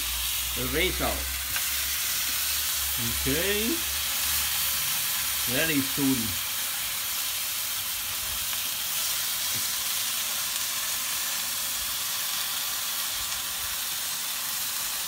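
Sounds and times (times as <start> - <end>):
hot oil sizzling: 0.0 - 15.0
meat frying in a skillet: 0.0 - 15.0.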